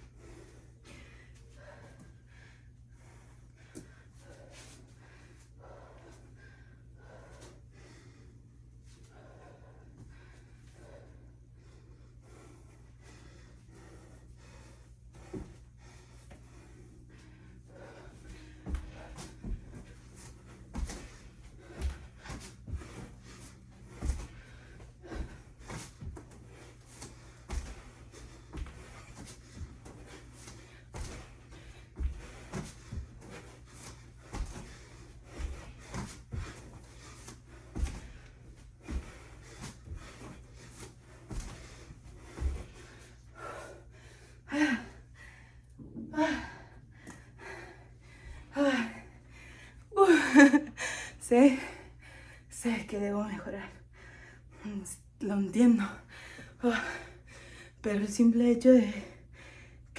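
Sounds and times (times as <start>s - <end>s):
person breathing hard: 0.0s - 52.5s, 53.8s - 54.6s, 56.0s - 57.8s, 58.9s - 59.9s.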